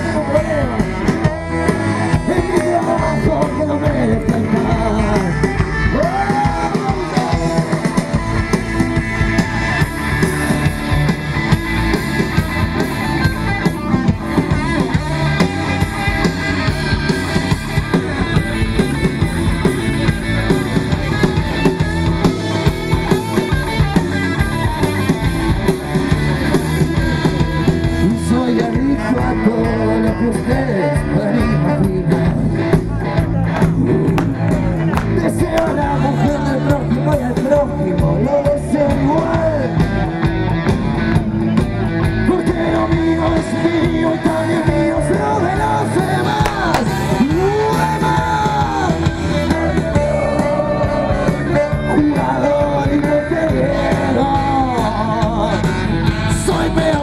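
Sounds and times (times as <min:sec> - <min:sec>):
live rock band: 0:00.0 - 0:57.0.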